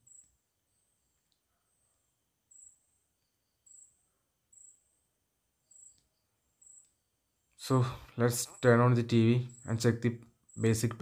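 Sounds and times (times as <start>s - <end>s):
faint high insect chirp: 0.0s - 11.0s.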